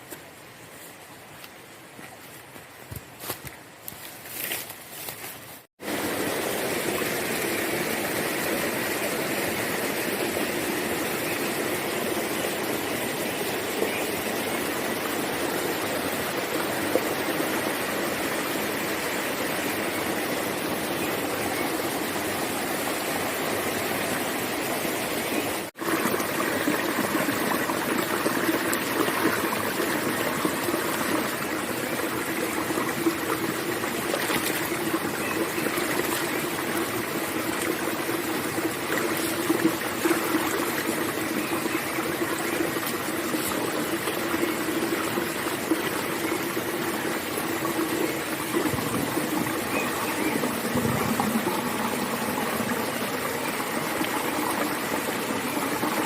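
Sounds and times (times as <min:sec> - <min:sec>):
running water rushing: 0:05.0 - 0:56.0.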